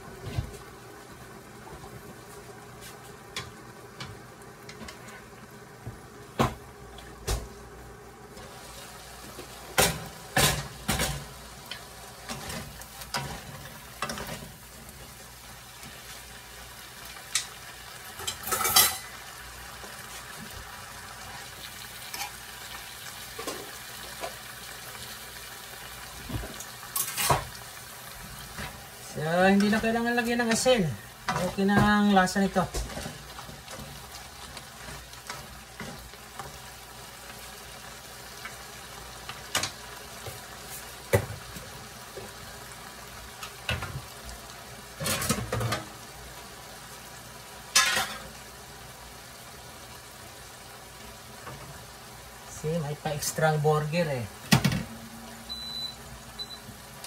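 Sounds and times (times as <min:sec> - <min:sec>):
vegetables sizzling in frying pan: 0:00.0 - 0:57.0.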